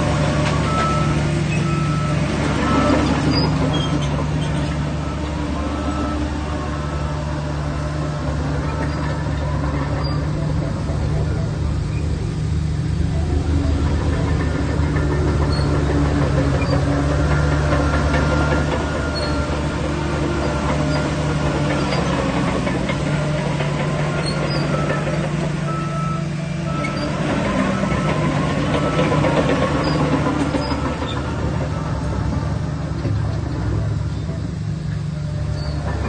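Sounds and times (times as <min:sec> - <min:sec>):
heavy diesel machinery droning: 0:00.0 - 0:36.0.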